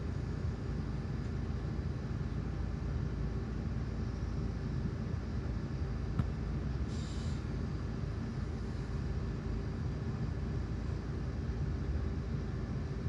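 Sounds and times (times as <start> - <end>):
bus engine idling: 0.0 - 13.0.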